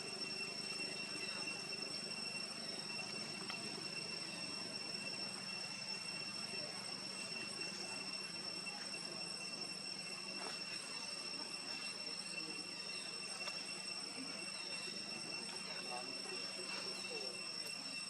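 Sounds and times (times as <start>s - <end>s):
faint chirps: 0.0s - 18.0s
insects droning: 0.0s - 18.0s.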